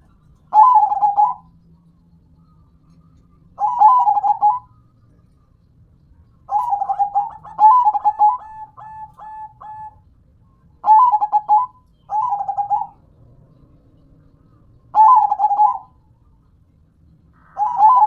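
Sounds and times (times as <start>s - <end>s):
dove cooing: 0.0s - 4.9s, 6.4s - 10.1s, 10.8s - 16.4s, 17.4s - 18.0s.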